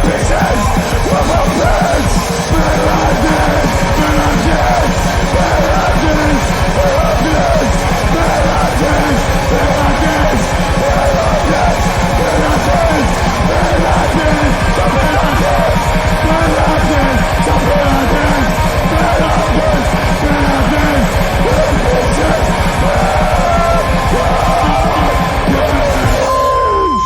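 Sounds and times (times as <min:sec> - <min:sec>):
loud punk rock music: 0:00.0 - 0:27.0.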